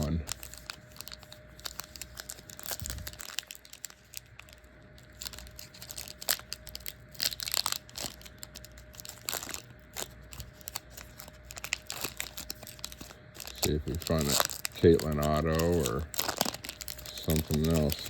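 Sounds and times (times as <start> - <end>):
card pack wrapper tearing and crinkling: 0.0 - 18.0.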